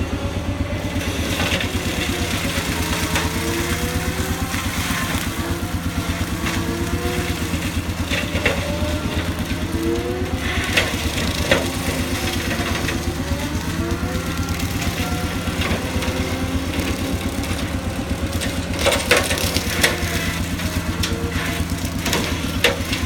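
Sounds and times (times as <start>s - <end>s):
skid steer engine running: 0.0s - 23.0s.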